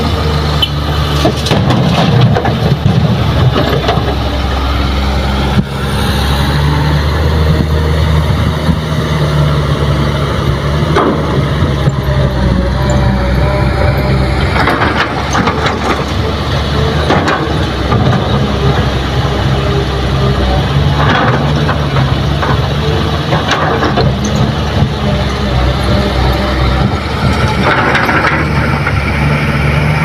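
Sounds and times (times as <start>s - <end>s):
excavator engine working: 0.0s - 30.0s.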